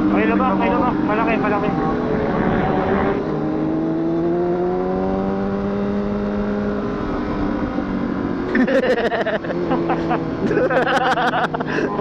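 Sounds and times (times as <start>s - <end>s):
motorcycle engine accelerating: 0.0s - 11.3s.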